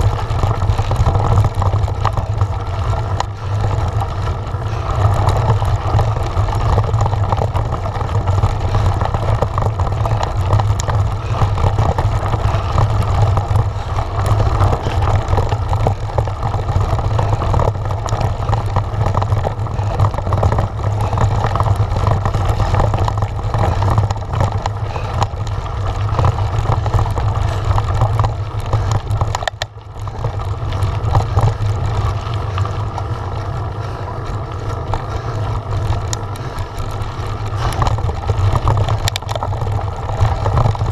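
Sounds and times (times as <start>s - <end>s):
bike tyres crunching over stones: 0.0s - 40.9s.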